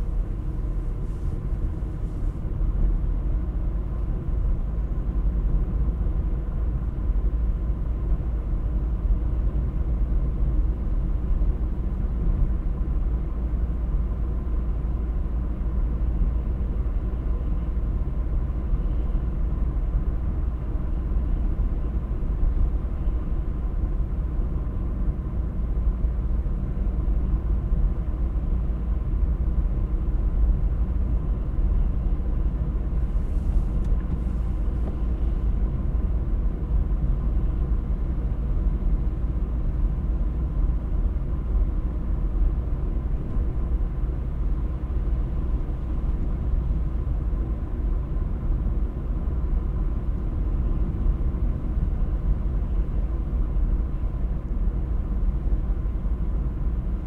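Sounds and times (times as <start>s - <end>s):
car driving: 0.0s - 8.2s, 8.8s - 57.0s.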